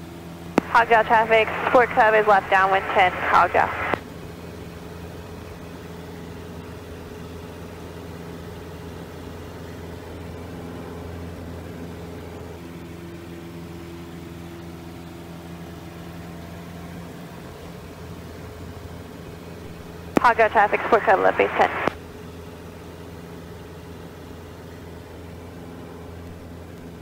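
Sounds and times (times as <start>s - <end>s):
light aircraft engine droning: 0.0s - 27.0s.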